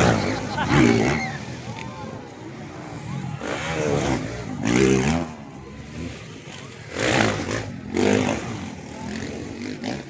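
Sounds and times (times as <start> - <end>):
motorcycles revving: 0.0 - 10.0.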